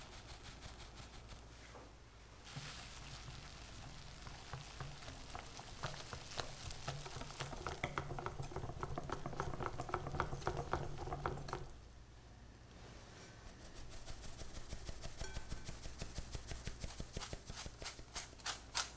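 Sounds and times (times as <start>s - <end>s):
whisk beating batter in glass bowl: 0.0s - 1.4s, 2.5s - 11.8s, 13.6s - 18.1s.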